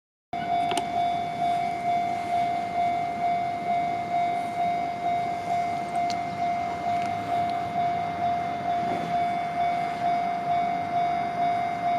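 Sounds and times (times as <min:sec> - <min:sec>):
level-crossing warning bell: 0:00.4 - 0:11.9.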